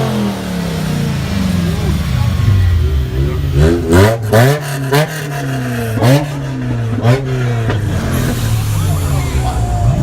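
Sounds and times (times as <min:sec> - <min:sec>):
car engine idling and revving: 0:00.0 - 0:10.0.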